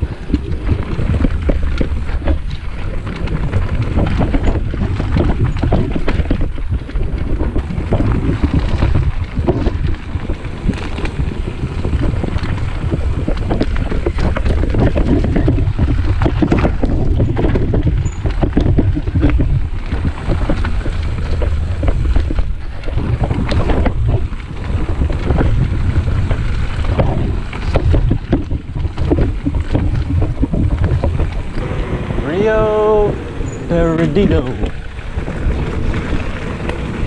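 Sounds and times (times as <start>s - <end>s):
bike rattling and knocking: 0.0s - 37.0s
tyres rumbling on dirt: 0.0s - 37.0s
wind buffeting microphone: 0.0s - 37.0s.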